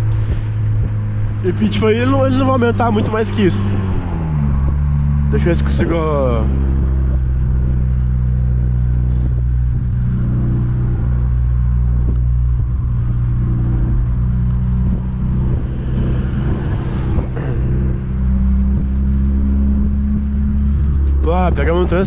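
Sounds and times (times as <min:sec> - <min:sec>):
car engine and exhaust droning: 0:00.0 - 0:22.0
road noise: 0:00.0 - 0:22.0
wind noise: 0:00.0 - 0:22.0.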